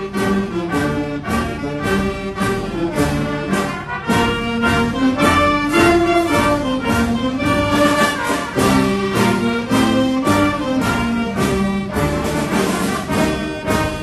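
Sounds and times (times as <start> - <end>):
brass holding notes: 0.0 - 14.0
orchestral music: 0.0 - 14.0.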